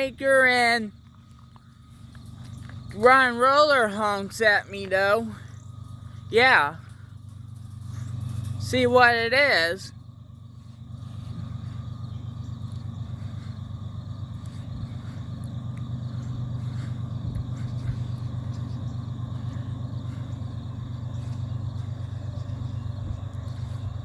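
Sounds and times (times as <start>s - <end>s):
diesel locomotive rumble: 0.0s - 24.0s
insects chirping: 0.0s - 24.0s.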